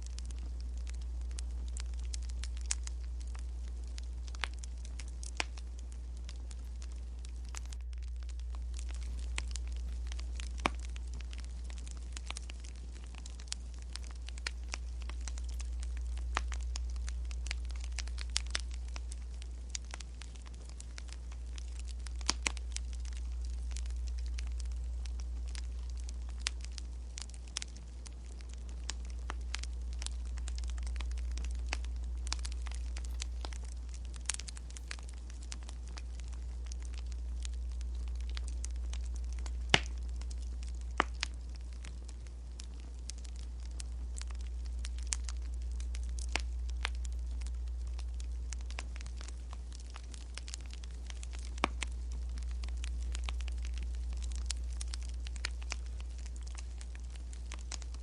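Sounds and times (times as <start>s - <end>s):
fire low rumble: 0.0s - 58.0s
wood fire crackling and popping: 0.0s - 58.0s.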